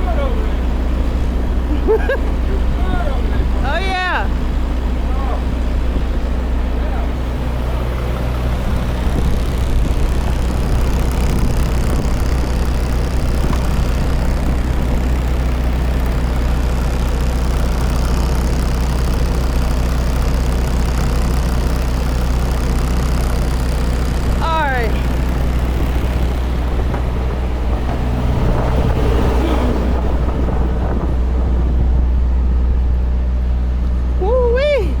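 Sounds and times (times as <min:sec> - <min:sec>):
truck diesel engine droning: 0:00.0 - 0:35.0.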